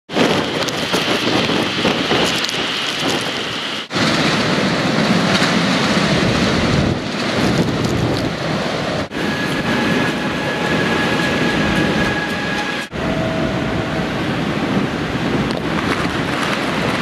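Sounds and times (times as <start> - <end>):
heavy rain and wind rushing: 0.1 - 17.0.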